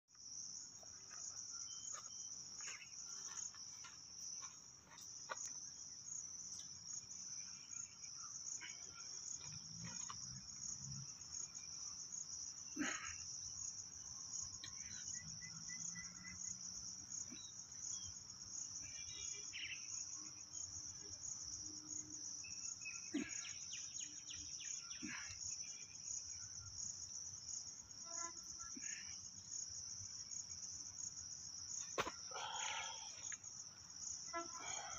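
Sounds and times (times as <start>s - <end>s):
high-pitched insect chorus: 0.2s - 34.9s.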